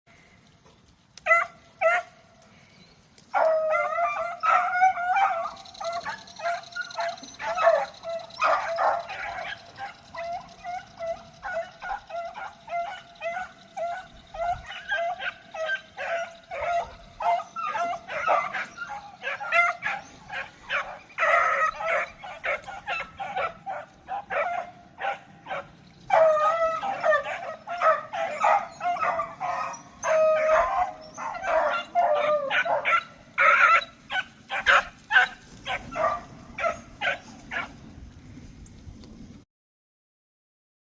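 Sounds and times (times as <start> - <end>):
dogs baying and barking: 1.2 - 37.9.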